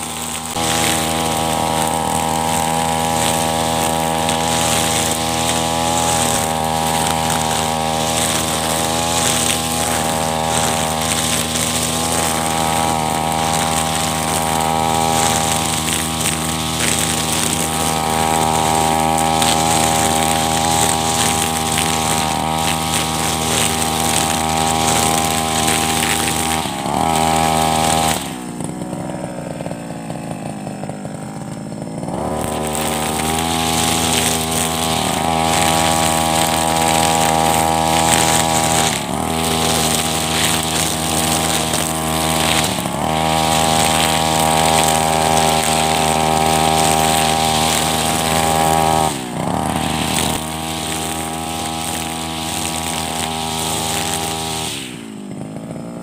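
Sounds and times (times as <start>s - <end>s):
brush cutter engine at high throttle: 0.0s - 56.0s.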